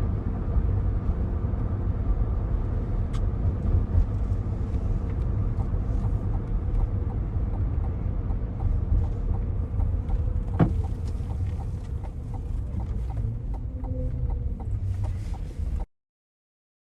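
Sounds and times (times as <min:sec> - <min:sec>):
road and engine rumble: 0:00.0 - 0:15.9.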